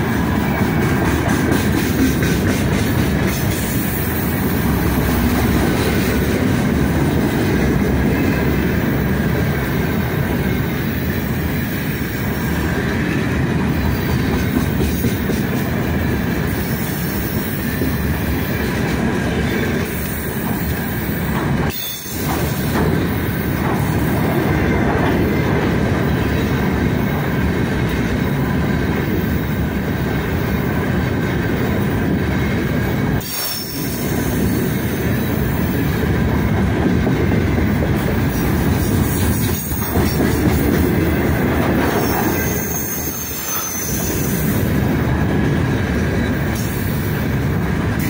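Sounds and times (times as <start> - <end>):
train wheels clattering on rails: 0.0 - 48.0.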